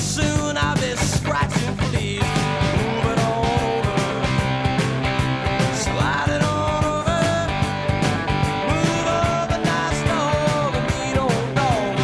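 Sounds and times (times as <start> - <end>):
drum beat: 0.0 - 12.0
lead guitar bending notes: 2.2 - 12.0.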